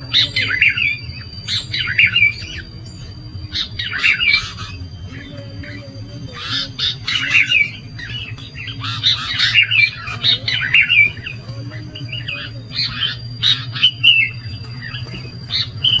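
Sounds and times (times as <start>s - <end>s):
bulbul chirping calls: 0.0s - 16.0s
low steady hum: 0.0s - 16.0s.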